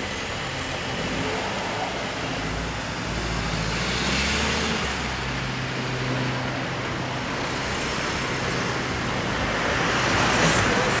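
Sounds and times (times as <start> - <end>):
cars driving past: 0.0 - 11.0
engine hum and tyre noise: 0.0 - 11.0.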